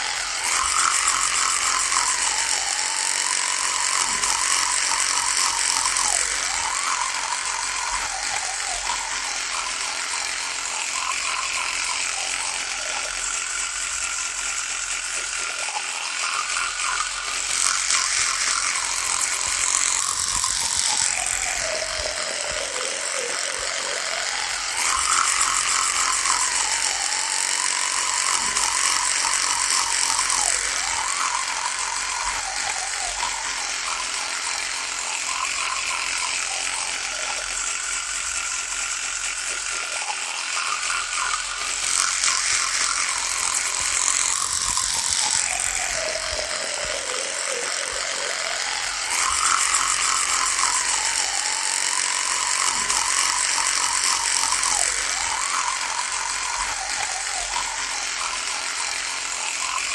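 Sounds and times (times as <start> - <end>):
electric toothbrush buzzing: 0.0 - 59.9.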